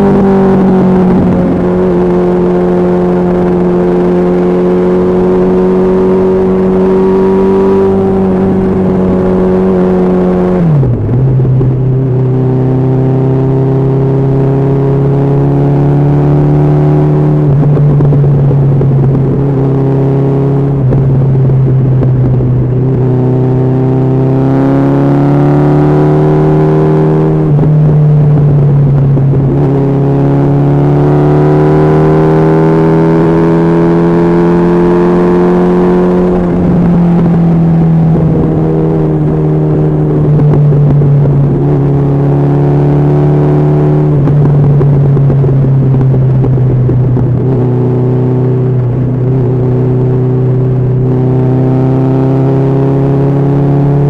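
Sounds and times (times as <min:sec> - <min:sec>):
motorcycle engine running loud: 0:00.0 - 0:54.0.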